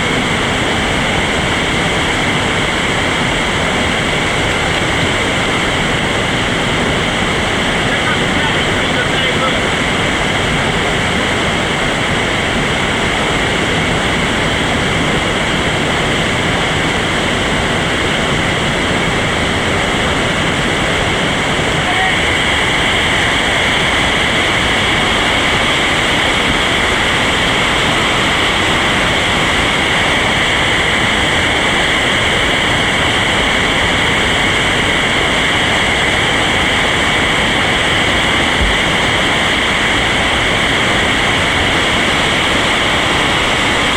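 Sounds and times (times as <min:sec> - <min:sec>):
whitewater rapids rushing: 0:00.0 - 0:43.9.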